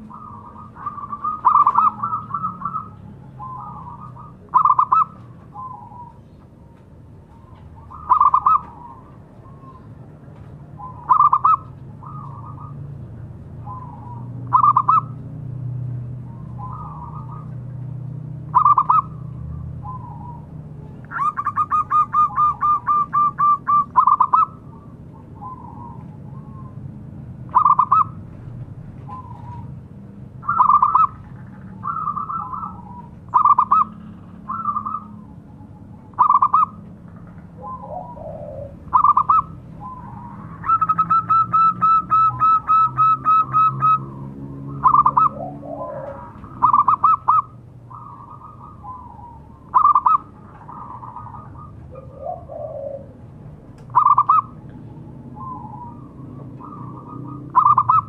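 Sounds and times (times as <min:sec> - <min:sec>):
dove cooing: 0:00.0 - 0:10.0, 0:10.8 - 0:13.0, 0:13.6 - 0:15.2, 0:16.3 - 0:17.7, 0:18.5 - 0:26.9, 0:27.5 - 0:29.8, 0:30.4 - 0:58.0.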